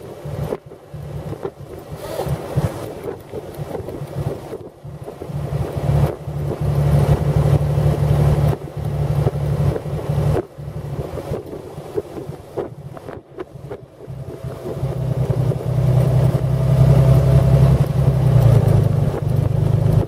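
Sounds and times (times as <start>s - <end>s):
car engine droning: 0.0s - 20.0s
wind buffeting microphone: 0.0s - 20.0s.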